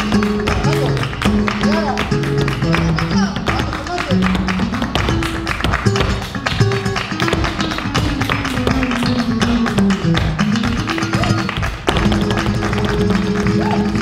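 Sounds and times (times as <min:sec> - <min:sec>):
flamenco guitar music: 0:00.0 - 0:14.0
sharp percussive taps: 0:00.0 - 0:14.0.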